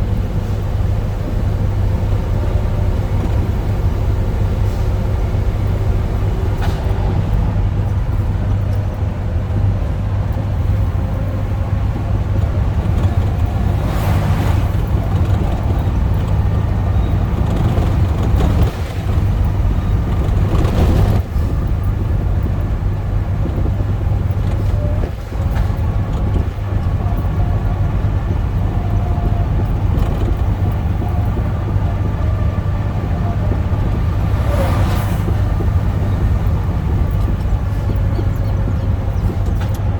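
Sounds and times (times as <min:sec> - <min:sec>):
road noise: 0:00.0 - 0:39.9
truck diesel engine cruising: 0:00.0 - 0:39.9.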